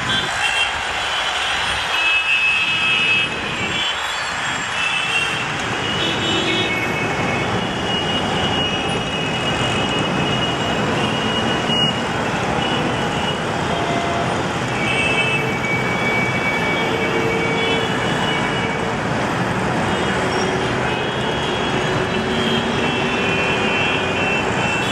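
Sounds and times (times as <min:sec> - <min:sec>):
vehicles hissing on wet road: 0:00.0 - 0:24.9.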